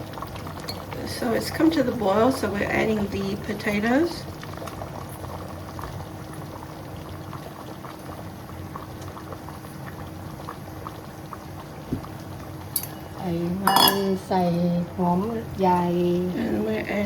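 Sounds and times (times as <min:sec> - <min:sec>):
curry bubbling at a boil: 0:00.0 - 0:17.0
faint steady hum: 0:00.0 - 0:17.0.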